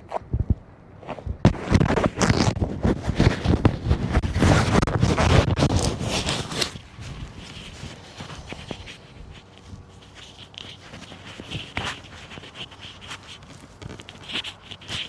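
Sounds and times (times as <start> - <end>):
rustling and scraping on microphone: 0.1 - 15.0.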